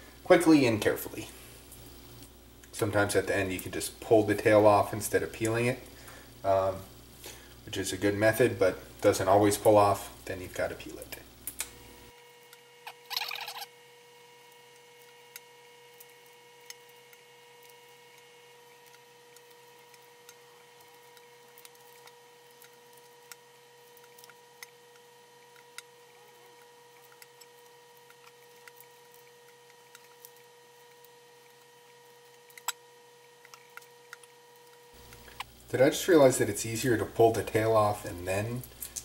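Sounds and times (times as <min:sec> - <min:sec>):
faint electrical hum: 0:00.0 - 0:39.0.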